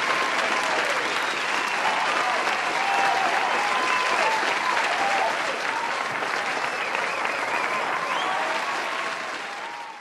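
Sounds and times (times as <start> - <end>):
crowd applauding: 0.0 - 10.0
people cheering: 0.0 - 10.0.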